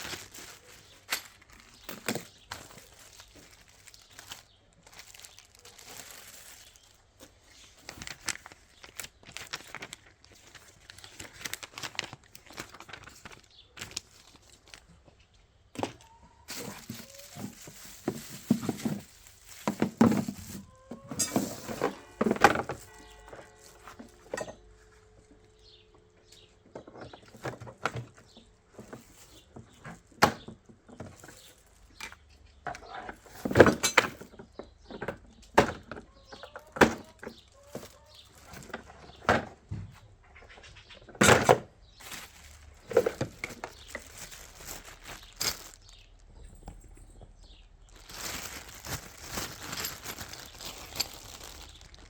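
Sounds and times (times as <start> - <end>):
plastic parts knocking and clattering: 0.0 - 14.8, 15.7 - 24.6, 26.7 - 40.0, 41.0 - 52.0.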